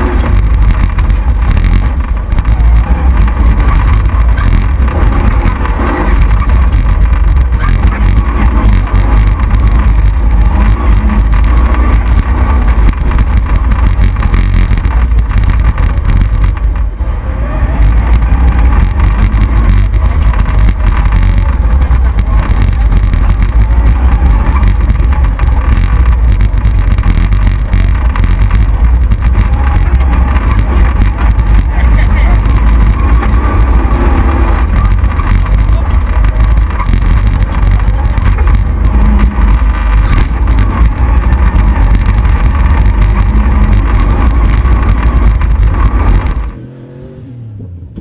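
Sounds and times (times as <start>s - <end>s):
low microphone rumble: 0.0s - 46.6s
loud car engine running: 0.0s - 48.0s.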